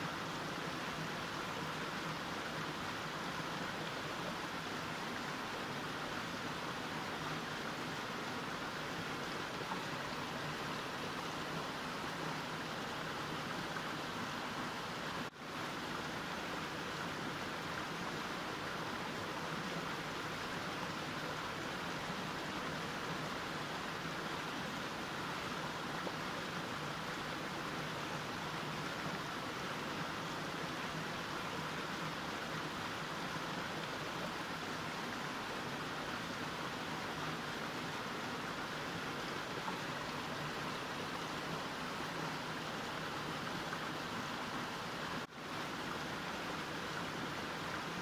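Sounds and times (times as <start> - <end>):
mountain stream flowing: 0.0 - 48.0.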